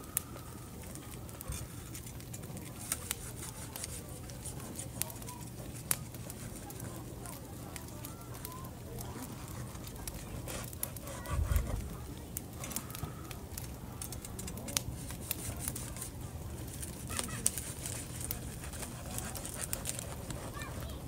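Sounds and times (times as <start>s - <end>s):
knife crackling through crispy skin: 0.1s - 21.0s.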